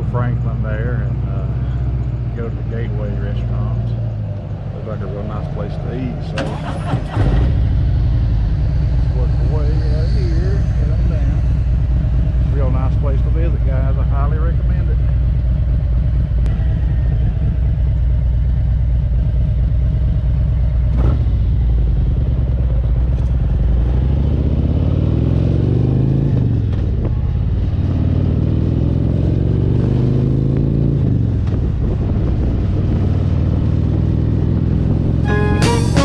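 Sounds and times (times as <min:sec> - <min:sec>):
motorcycle engine idling and accelerating: 0:00.0 - 0:36.0.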